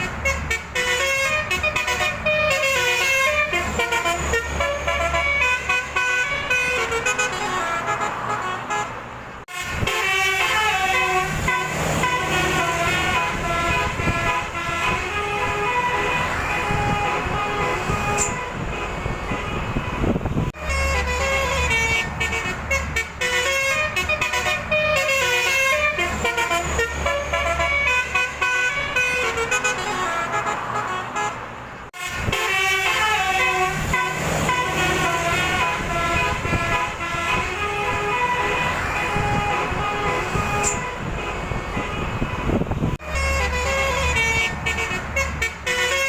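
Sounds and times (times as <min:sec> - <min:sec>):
bus engine running: 0:00.0 - 0:46.0
bus horns playing melodies: 0:00.0 - 0:46.0.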